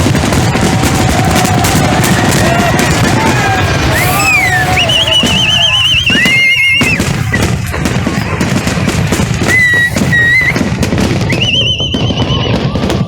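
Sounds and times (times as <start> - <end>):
constant rumble: 0.0 - 11.1
fireworks bangs and crackles: 0.0 - 13.0
fireworks whistling: 0.0 - 13.0.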